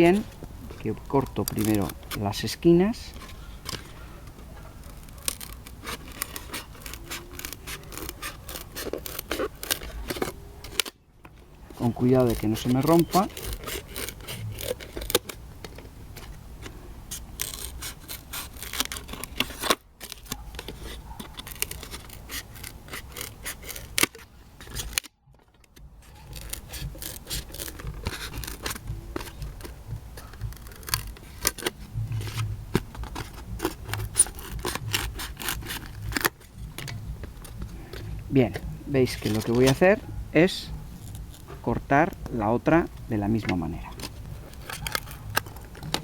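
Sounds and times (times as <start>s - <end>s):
scissors cutting foam tray: 0.9s - 3.9s, 4.6s - 11.0s, 11.8s - 42.2s, 43.4s - 46.0s.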